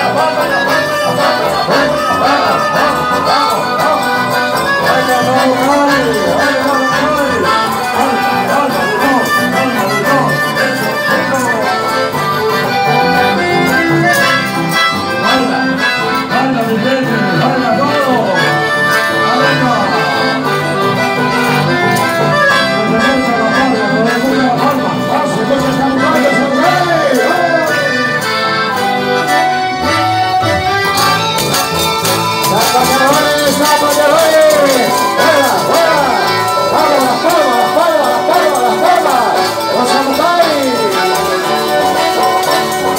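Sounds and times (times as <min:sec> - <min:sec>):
accordion melody: 0:00.0 - 0:42.9
strummed guitar: 0:00.0 - 0:42.9.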